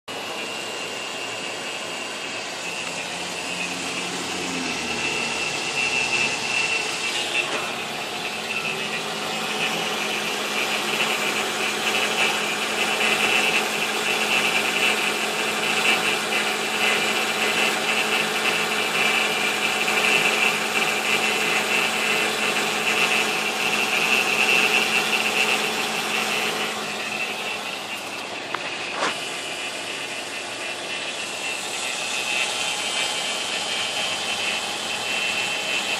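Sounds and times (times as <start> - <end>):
car engine running: 0.1 - 35.9
high-pitched whine: 0.1 - 35.9.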